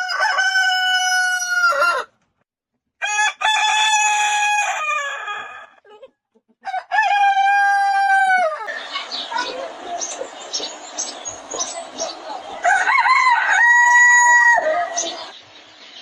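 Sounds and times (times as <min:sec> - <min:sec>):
roosters crowing: 0:00.0 - 0:02.1, 0:03.0 - 0:05.8, 0:06.6 - 0:10.8, 0:11.4 - 0:15.4.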